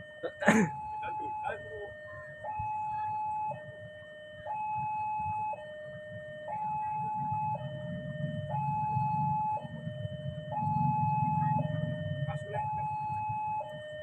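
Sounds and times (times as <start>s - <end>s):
level-crossing warning alarm: 0.0s - 14.0s.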